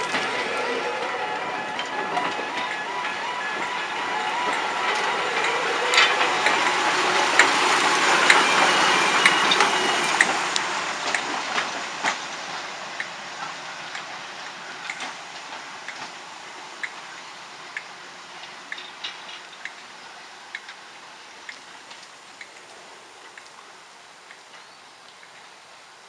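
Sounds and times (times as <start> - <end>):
diesel train passing: 0.0 - 23.5
wheels clicking over rail joints: 0.0 - 25.6.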